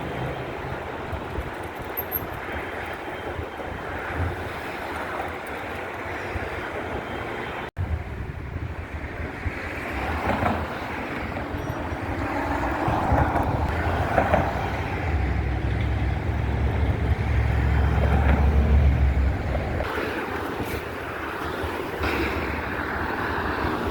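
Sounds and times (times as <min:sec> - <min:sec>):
city traffic noise: 0:00.0 - 0:23.9
wind rumbling on microphone: 0:00.0 - 0:23.9.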